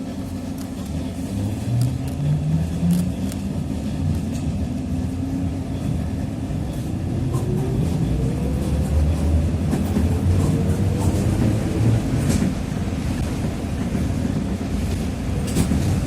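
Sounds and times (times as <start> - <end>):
low ride rumble: 0.0 - 16.0.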